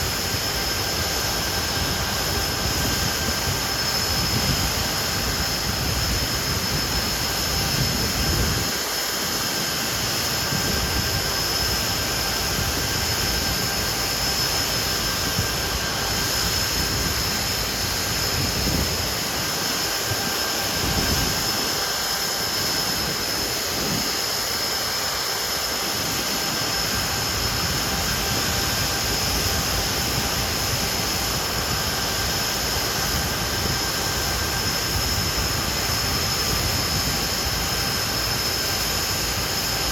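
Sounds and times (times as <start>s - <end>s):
high turbine whine: 0.0s - 39.9s
jet engine roar: 0.0s - 39.9s.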